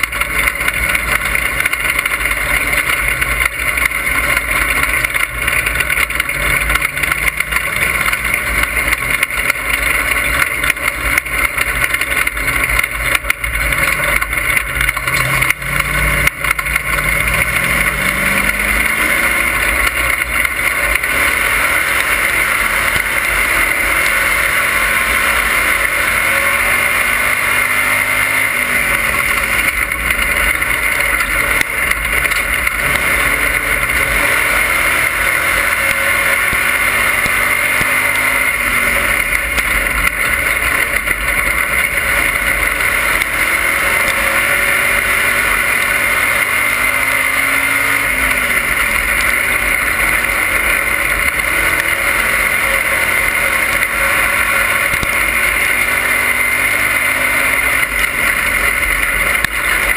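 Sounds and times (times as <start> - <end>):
race car engine running hard: 0.0 - 59.9
wind and chassis noise: 0.0 - 59.9.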